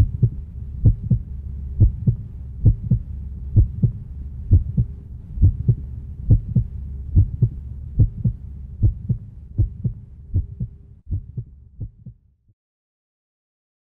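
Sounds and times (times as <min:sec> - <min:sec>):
heartbeat thumps: 0:00.0 - 0:12.2
steady low drone: 0:00.0 - 0:12.2.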